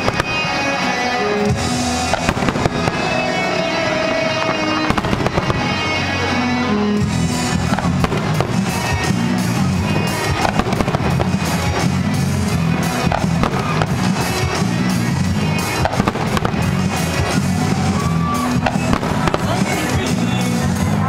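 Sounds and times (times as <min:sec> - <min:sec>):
fireworks exploding: 0:00.0 - 0:21.0
loud music: 0:00.0 - 0:21.0.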